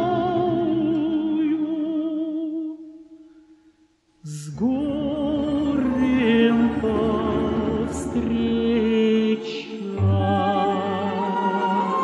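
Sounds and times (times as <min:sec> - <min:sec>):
operatic vocal singing: 0:00.0 - 0:03.0, 0:04.2 - 0:12.0.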